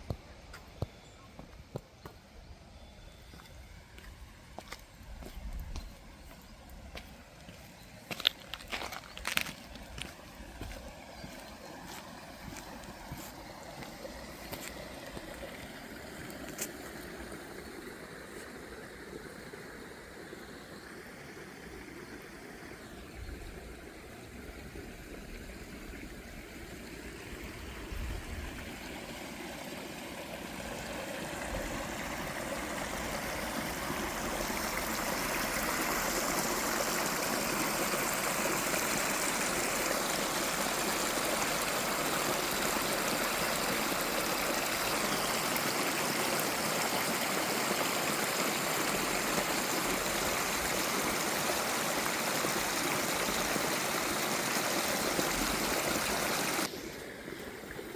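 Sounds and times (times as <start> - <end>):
stream water rushing: 3.4 - 22.8, 23.4 - 57.9.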